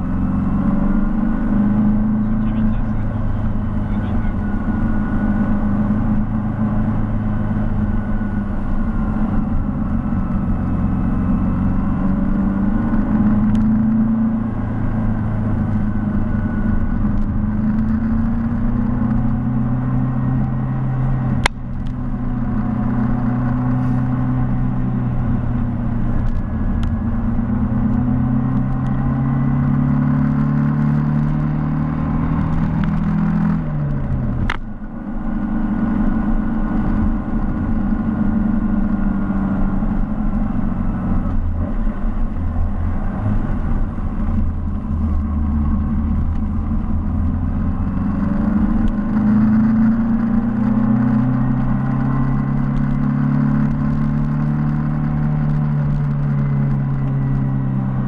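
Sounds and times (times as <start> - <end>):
car engine while driving: 0.0 - 58.0.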